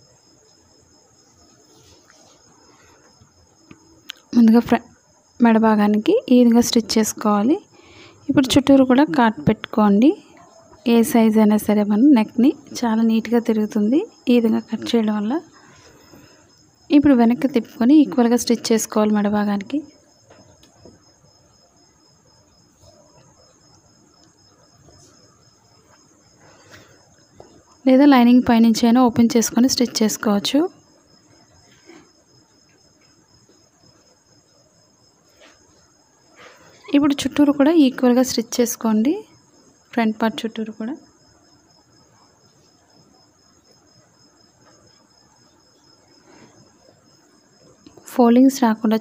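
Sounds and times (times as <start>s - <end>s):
faint background hiss: 0.0s - 49.0s.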